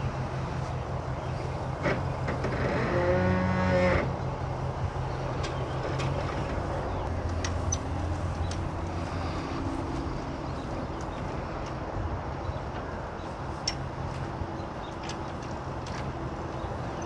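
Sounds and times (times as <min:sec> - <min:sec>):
pickup truck engine idling: 0:00.0 - 0:17.0.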